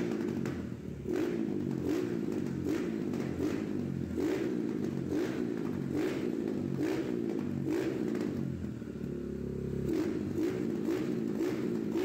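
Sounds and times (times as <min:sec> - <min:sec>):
motorcycle engine revving in blips: 0:00.0 - 0:12.0.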